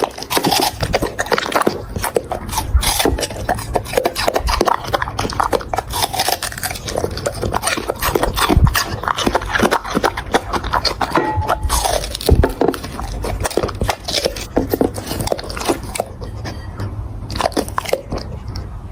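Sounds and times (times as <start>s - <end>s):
dog chewing and crunching: 0.0s - 18.9s.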